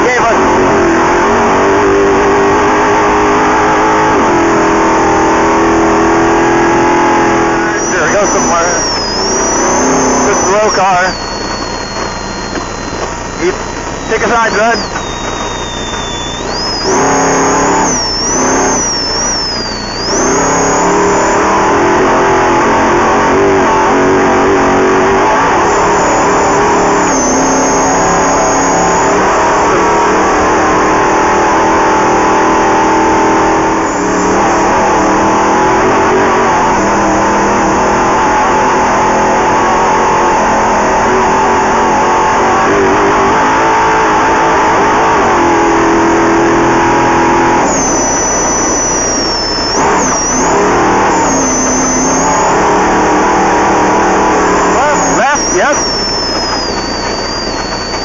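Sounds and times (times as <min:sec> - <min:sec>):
race vehicle engine revving: 0:00.0 - 0:58.0
thin high whine: 0:00.0 - 0:58.0.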